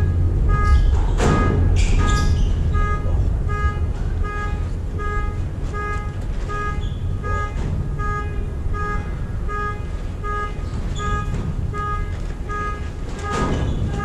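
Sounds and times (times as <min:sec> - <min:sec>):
constant low rumble: 0:00.0 - 0:14.0.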